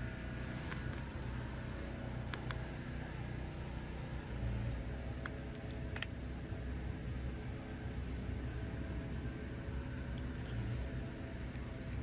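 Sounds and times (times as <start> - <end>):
motor traffic rumble: 0.0 - 12.0.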